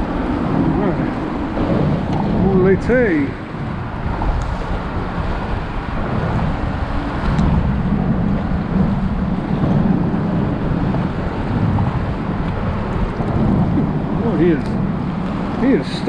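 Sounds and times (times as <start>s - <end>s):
water moving around boat: 0.0s - 16.0s
wind buffeting microphone: 0.0s - 16.0s.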